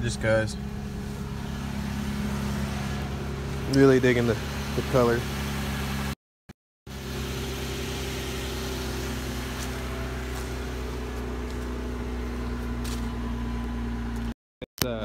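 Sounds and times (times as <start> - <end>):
car engine idling: 0.0 - 6.2, 6.9 - 14.4.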